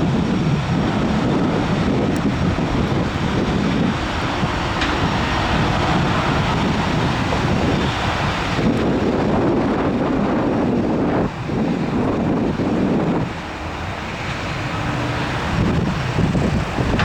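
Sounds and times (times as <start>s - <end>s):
jet engines running: 0.0s - 17.0s
wind buffeting microphone: 0.0s - 17.0s.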